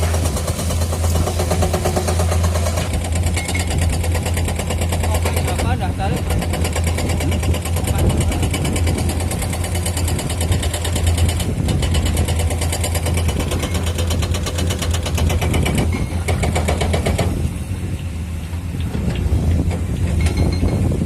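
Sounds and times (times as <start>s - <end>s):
hydraulic rock breaker hammering: 0.0s - 17.4s
diesel engine under load: 0.0s - 21.0s.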